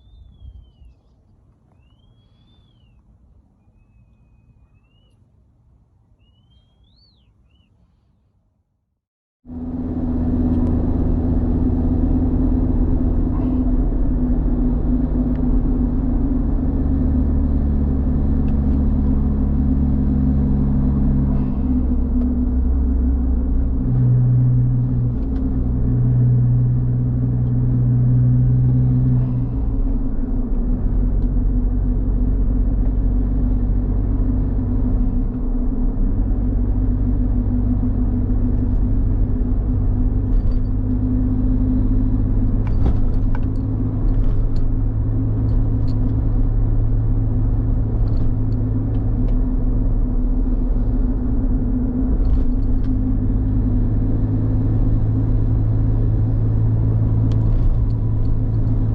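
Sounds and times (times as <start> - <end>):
car engine rumbling: 9.5 - 58.9.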